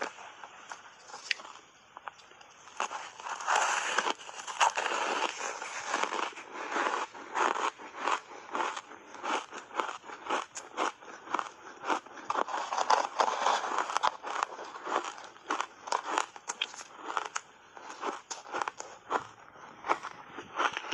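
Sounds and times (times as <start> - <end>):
crunchy chewing of shaved ice: 0.0 - 20.9.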